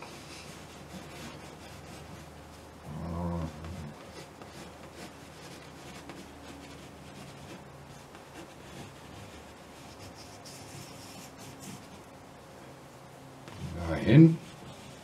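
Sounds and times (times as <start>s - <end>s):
crayon scratching on canvas: 0.0s - 2.6s, 3.3s - 12.1s, 13.5s - 15.0s.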